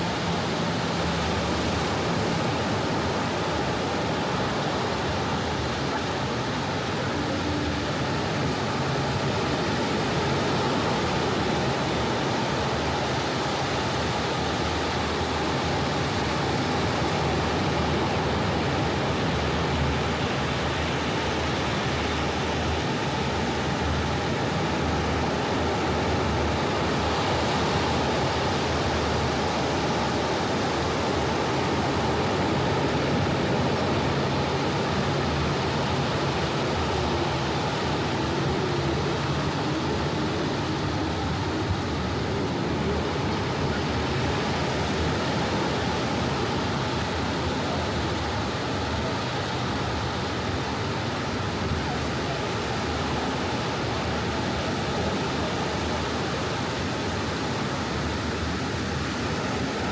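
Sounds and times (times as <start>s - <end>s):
sea surf on a beach: 0.0s - 59.9s.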